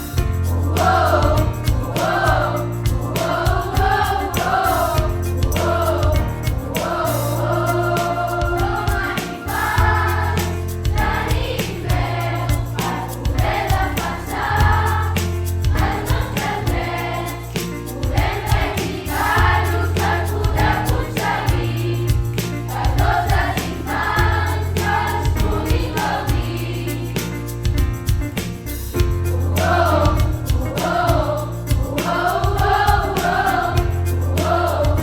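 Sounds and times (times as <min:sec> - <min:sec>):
group of voices singing: 0:00.0 - 0:27.8, 0:28.9 - 0:35.0
backing track with heavy bass: 0:00.0 - 0:35.0.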